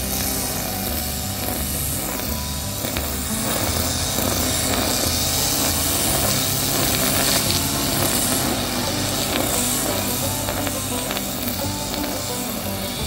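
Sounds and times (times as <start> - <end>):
brush cutter engine running: 0.0 - 13.0.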